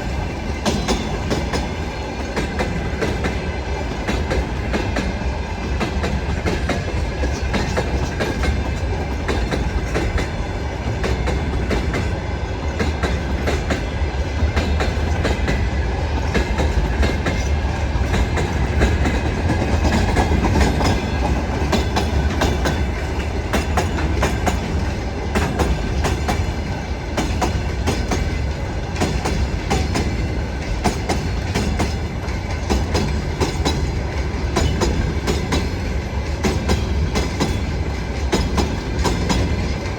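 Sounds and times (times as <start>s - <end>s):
train wheels knocking over rail joints: 0.0s - 39.9s.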